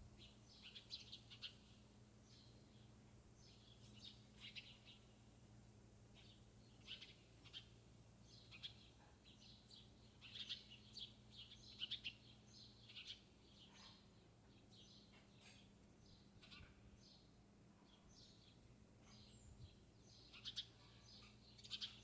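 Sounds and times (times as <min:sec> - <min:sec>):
small birds chirping: 0:00.1 - 0:05.4, 0:06.0 - 0:22.0.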